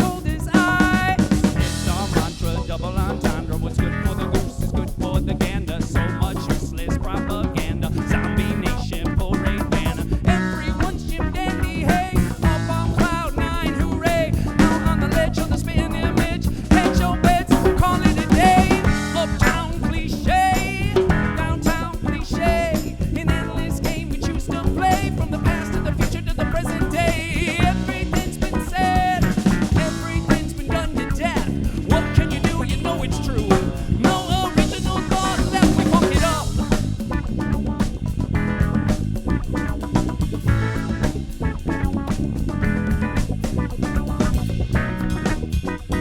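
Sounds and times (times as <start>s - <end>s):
bass and guitar: 0.0s - 46.0s
drum kit with snare and rimshots: 0.0s - 46.0s.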